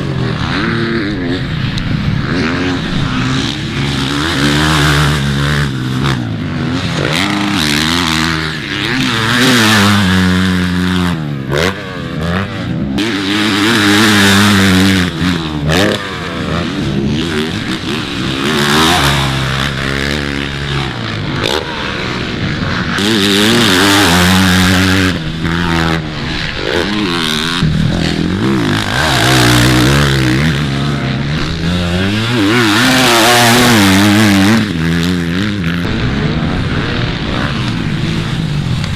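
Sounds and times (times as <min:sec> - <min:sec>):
dirt bike engines revving: 0:00.0 - 0:38.9.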